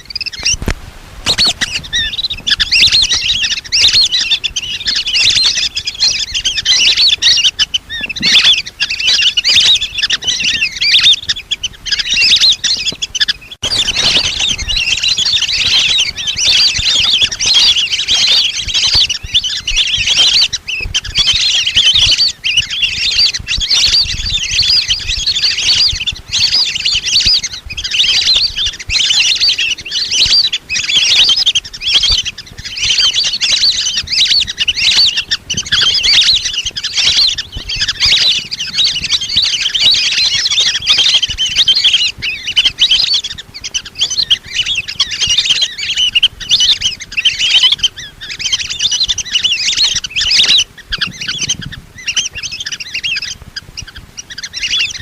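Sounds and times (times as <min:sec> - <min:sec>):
ducks chirping whistles: 0:00.0 - 0:55.0.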